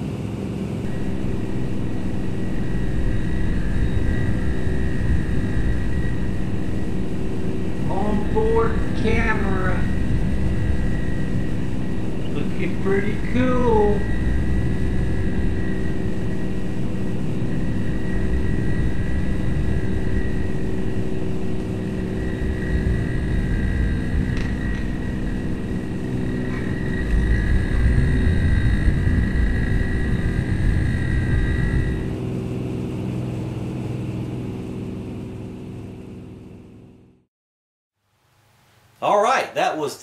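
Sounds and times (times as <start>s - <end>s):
propeller rushing rumble: 0.0s - 37.2s
small electric motor whine: 0.0s - 37.2s.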